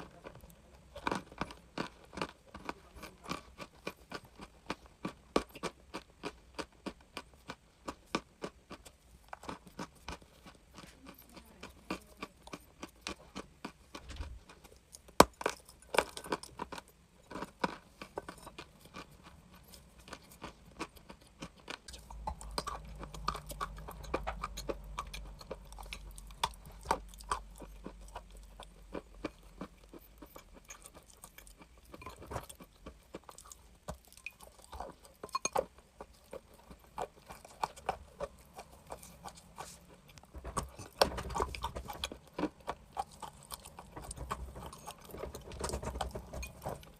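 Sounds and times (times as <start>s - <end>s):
chalk crunching while chewed: 0.0s - 46.9s.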